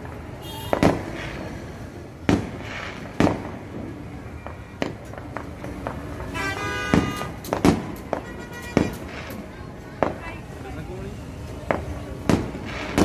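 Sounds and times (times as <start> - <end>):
faint fireworks pops: 0.0 - 10.7, 11.4 - 13.0
fireworks bangs: 0.0 - 10.7, 11.4 - 13.0.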